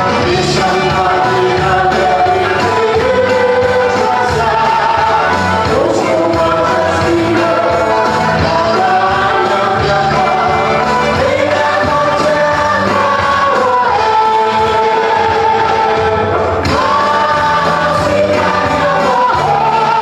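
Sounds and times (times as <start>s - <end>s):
amplified band music: 0.0s - 20.0s
voices singing: 0.0s - 20.0s.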